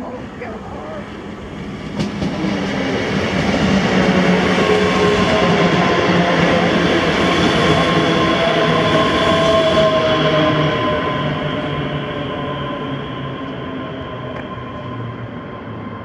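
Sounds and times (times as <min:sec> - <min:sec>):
train wheels rumbling on rails: 0:00.0 - 0:16.0
whining tones from train: 0:00.0 - 0:16.0.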